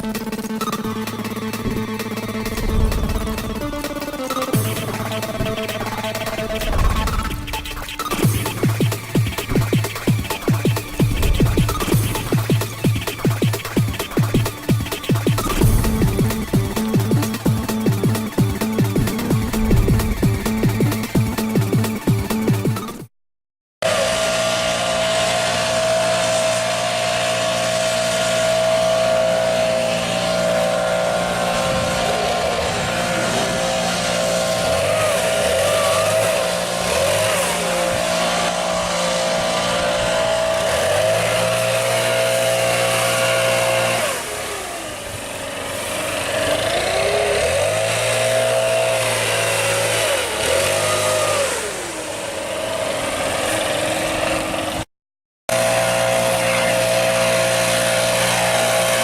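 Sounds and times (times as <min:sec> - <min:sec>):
leaf blower engine running: 0:00.0 - 0:22.9, 0:23.8 - 0:54.9, 0:55.5 - 0:59.0.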